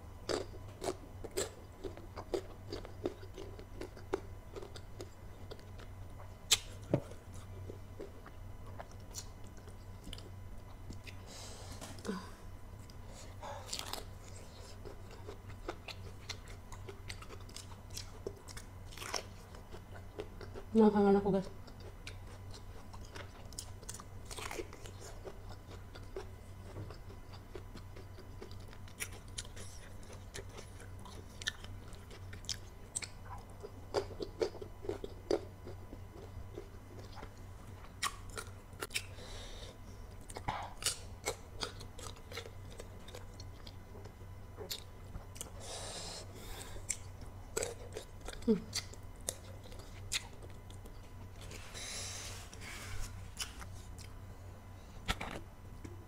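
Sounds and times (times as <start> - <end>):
chewing and crunching fruit: 0.2 - 56.0.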